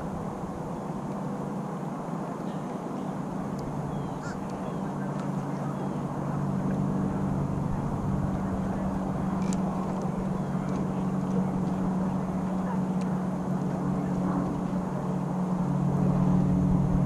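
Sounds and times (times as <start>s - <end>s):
faint water and wind noise: 0.0s - 17.0s
motor idling hum: 0.0s - 17.0s.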